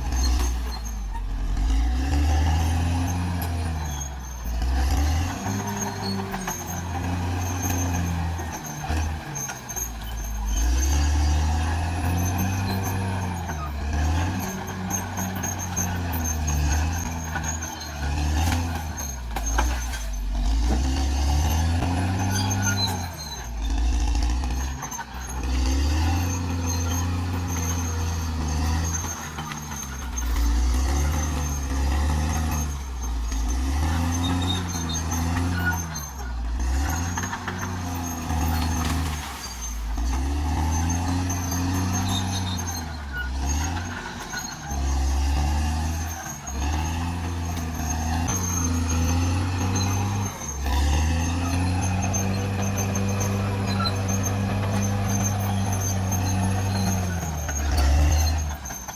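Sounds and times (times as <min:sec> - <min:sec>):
bulldozer diesel engine working: 0:00.0 - 0:58.9.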